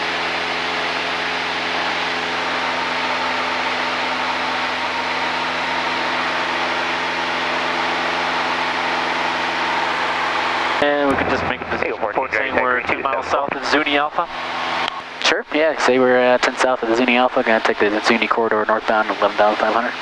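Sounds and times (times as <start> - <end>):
light aircraft engine and propeller: 0.0 - 20.0.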